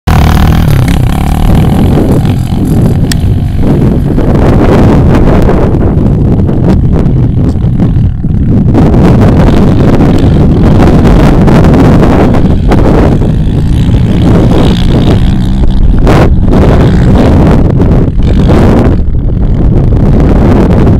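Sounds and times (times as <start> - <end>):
quad bike engine running hard: 0.1 - 20.9
wind buffeting microphone: 0.1 - 20.9.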